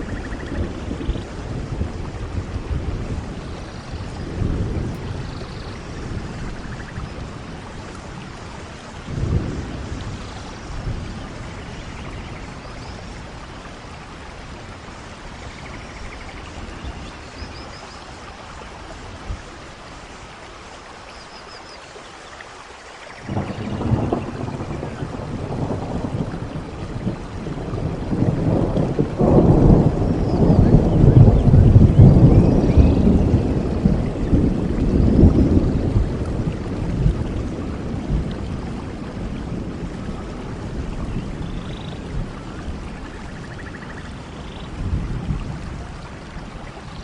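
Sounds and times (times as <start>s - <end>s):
thunder rumbling: 0.0s - 17.8s, 23.2s - 47.0s
steady rainfall: 0.0s - 47.0s.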